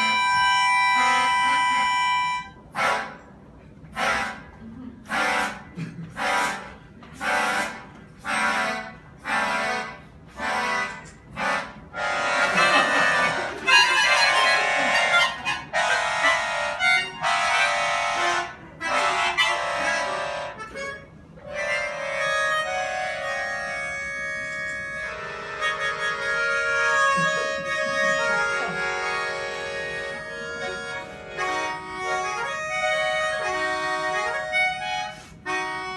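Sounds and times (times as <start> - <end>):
harmonica chords: 0.0 - 3.4, 4.0 - 35.9.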